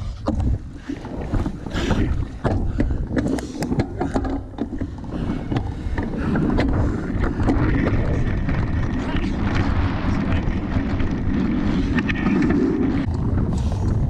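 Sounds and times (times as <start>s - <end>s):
bike clicks and rattles: 0.0s - 14.0s
wind rumble on microphone: 0.0s - 14.0s.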